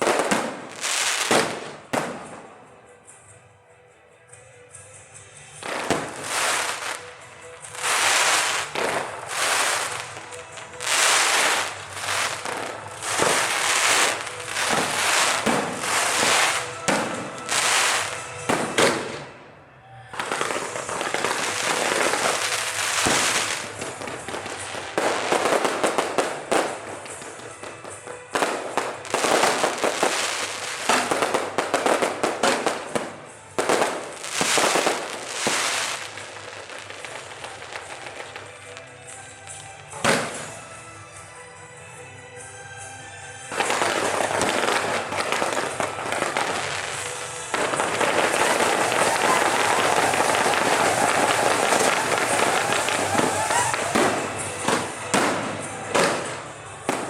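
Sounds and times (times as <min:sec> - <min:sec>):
fireworks crackling and popping: 0:00.0 - 0:03.2, 0:05.0 - 0:19.5, 0:20.1 - 0:41.2, 0:42.8 - 0:57.0.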